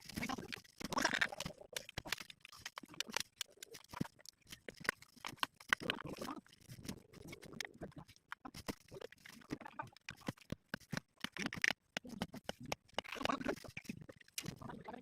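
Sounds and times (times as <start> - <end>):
crunching and clicking: 0.0 - 15.0.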